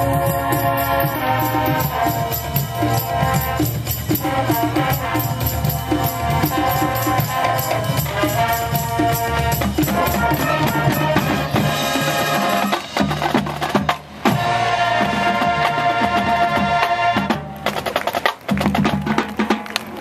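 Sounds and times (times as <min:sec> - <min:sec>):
brass holding chords: 0:00.0 - 0:13.0, 0:14.2 - 0:17.6
drumline percussion hits: 0:00.0 - 0:20.0.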